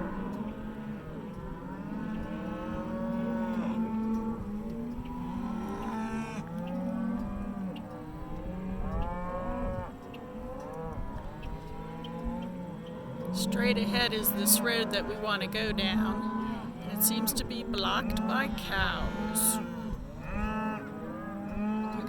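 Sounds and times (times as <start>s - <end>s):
cattle mooing: 0.0s - 22.0s.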